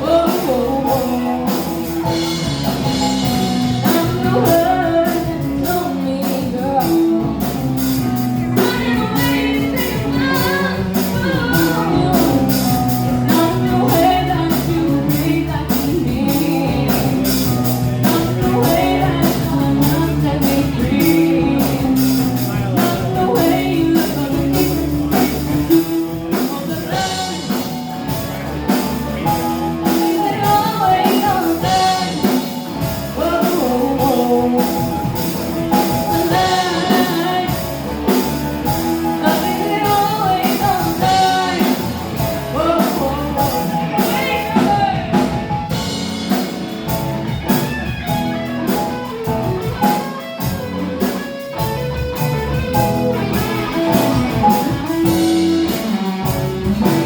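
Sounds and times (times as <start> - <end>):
drum kit: 0.0 - 57.0
electric guitar: 0.0 - 57.0
person singing: 0.0 - 57.0.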